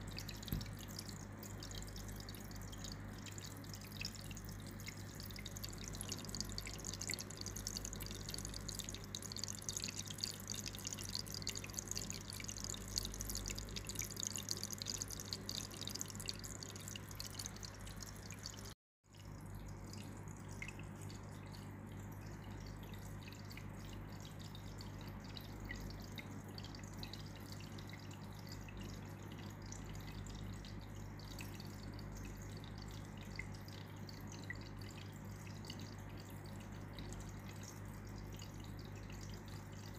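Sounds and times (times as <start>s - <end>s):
aquarium filter humming: 0.0s - 39.9s
aquarium water bubbling: 0.0s - 39.9s.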